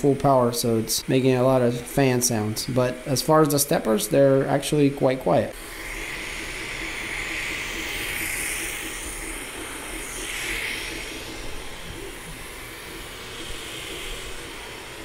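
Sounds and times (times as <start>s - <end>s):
printer cooling fan hissing: 0.0s - 15.0s.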